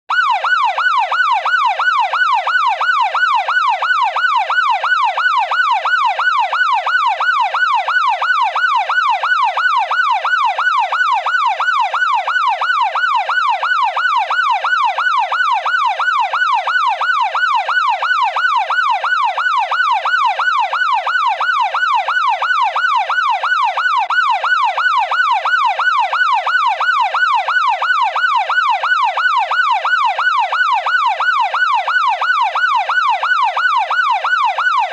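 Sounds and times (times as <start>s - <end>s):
police siren yelping: 0.1s - 34.9s.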